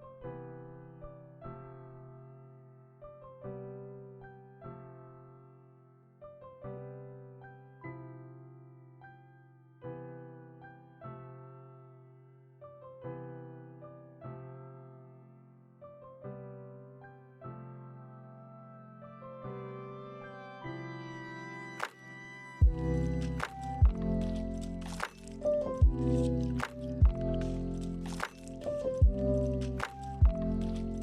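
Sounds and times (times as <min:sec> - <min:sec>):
soft keyboard chords: 0:00.0 - 0:31.0.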